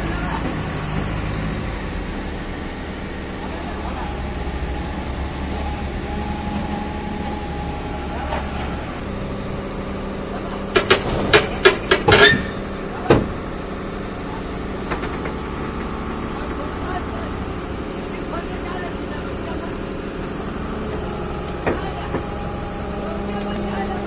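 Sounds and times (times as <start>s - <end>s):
metal tracks clanking: 0.0s - 9.2s, 10.3s - 24.0s
excavator diesel engine running: 0.0s - 24.0s.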